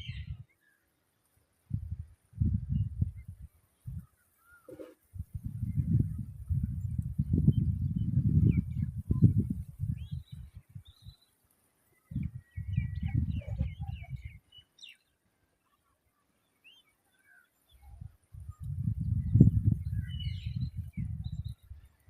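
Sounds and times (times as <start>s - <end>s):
birds chirping: 2.7s - 22.0s.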